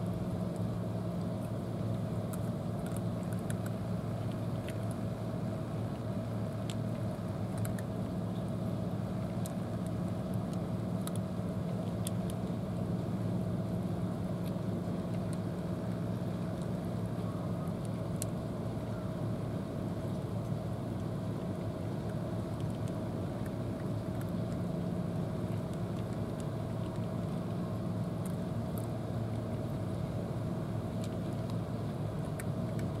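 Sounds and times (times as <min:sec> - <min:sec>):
cats crunching dry kibble: 0:00.2 - 0:33.0.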